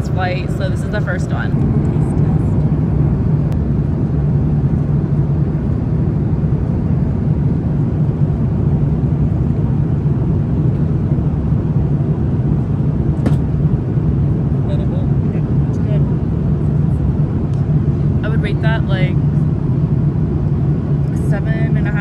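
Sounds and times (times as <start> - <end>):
airliner cabin drone: 0.0 - 22.0.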